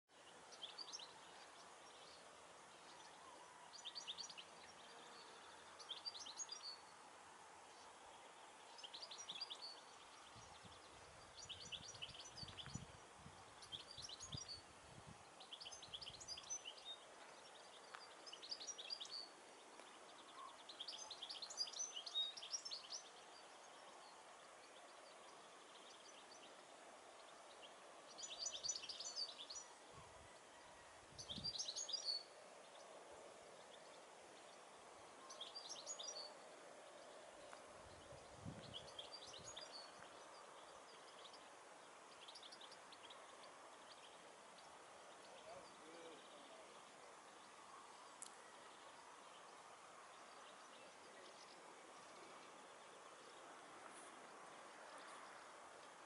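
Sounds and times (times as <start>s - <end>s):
faint steady hiss: 0.1s - 56.0s
songbirds chirping: 0.1s - 56.0s.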